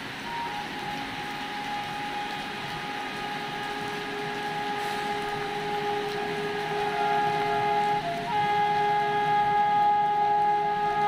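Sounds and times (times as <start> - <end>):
low train rumble: 0.0 - 11.0
train horn: 0.0 - 11.0.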